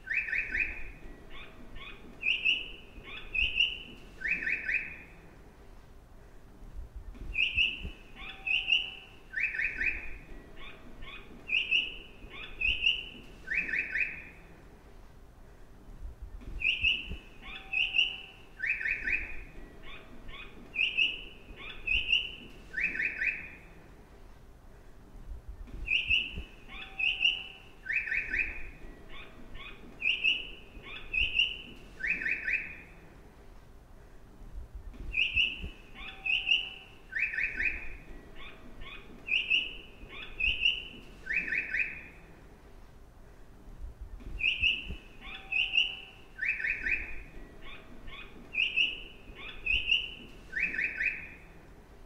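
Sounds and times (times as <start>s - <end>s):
recorded bird chirps: 0.0s - 5.5s, 6.2s - 14.9s, 15.8s - 24.2s, 24.8s - 33.5s, 34.1s - 52.0s.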